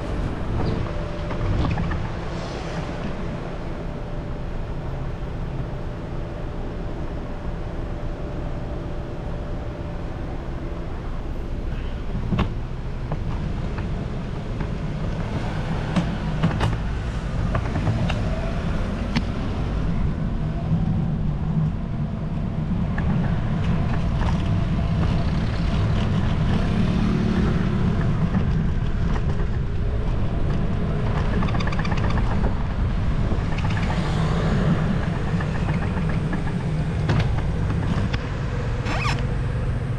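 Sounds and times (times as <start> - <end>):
cars passing: 0.0 - 39.9
road noise rumble: 0.0 - 39.9.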